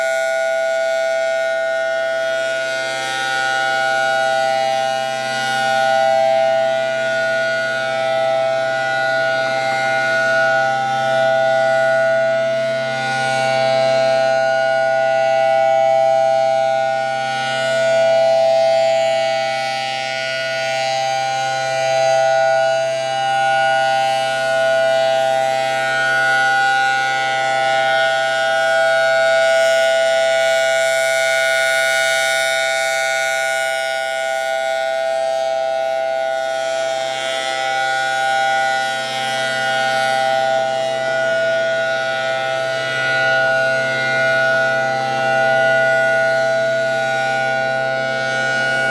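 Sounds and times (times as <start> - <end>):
warning siren steady tone: 0.0 - 48.9.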